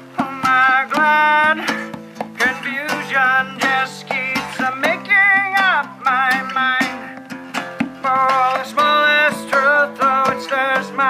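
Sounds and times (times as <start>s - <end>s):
hand drumming on a djembe: 0.0s - 10.7s
man singing: 0.0s - 11.0s
strummed acoustic guitar: 0.0s - 11.0s.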